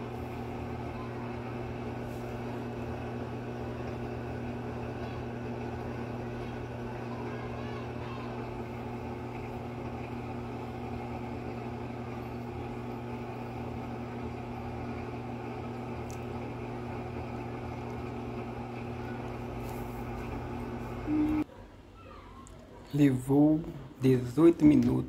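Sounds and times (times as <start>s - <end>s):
washing machine spinning: 0.0s - 21.5s.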